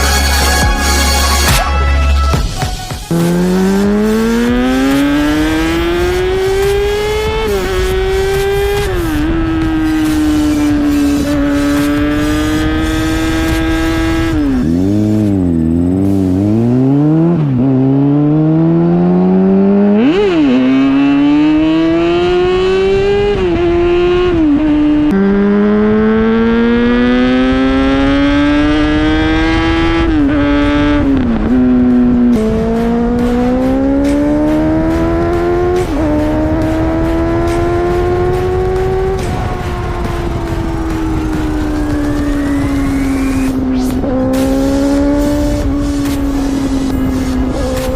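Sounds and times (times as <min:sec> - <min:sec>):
sport bike engine accelerating: 0:03.1 - 0:47.9.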